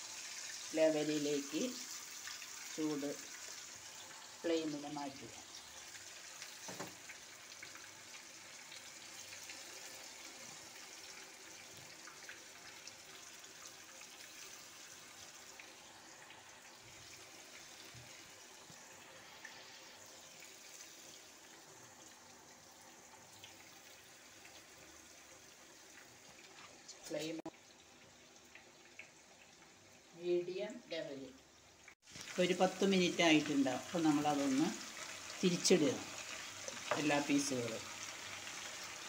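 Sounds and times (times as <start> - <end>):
chicken sizzling in oil: 0.0 - 39.0.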